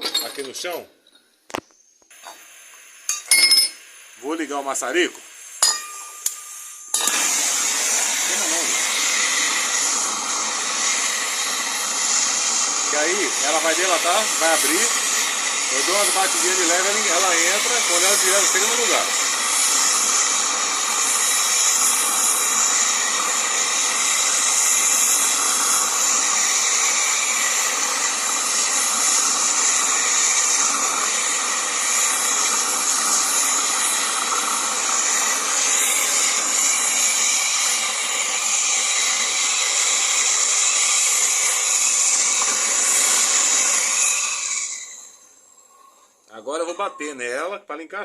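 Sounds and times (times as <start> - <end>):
blowtorch flame hissing: 3.8 - 46.9.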